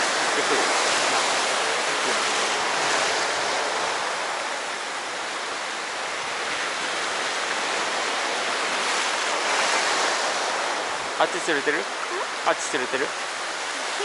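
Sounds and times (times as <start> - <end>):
waves washing on shore: 0.0 - 14.0.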